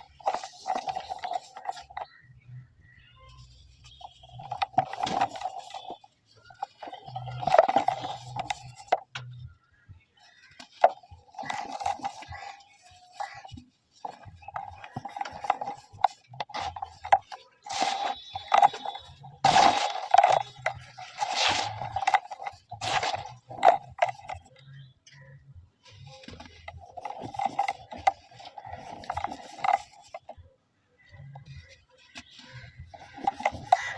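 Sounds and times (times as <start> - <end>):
dry cement balls crunching: 0.0 - 9.6, 10.2 - 30.4, 31.0 - 33.9.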